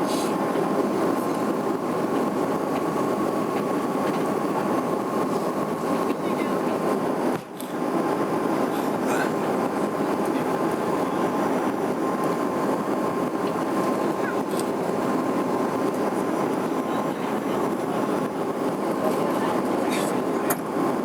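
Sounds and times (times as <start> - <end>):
airliner cabin rumbling hiss: 0.0 - 21.0
faint constant whine: 0.0 - 21.0.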